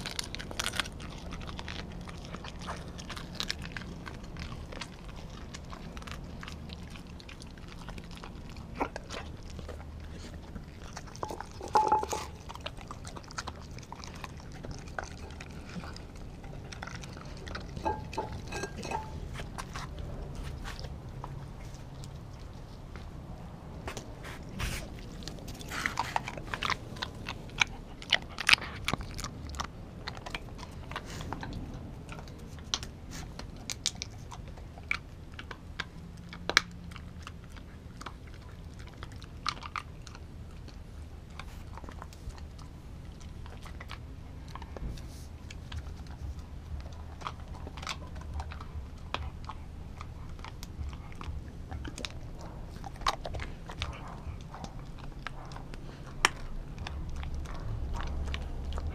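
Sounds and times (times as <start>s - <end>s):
dog chewing and crunching bone: 0.0s - 58.9s.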